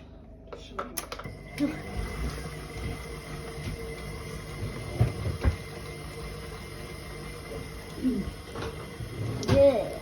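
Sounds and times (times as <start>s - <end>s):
stand mixer running: 1.2s - 10.0s.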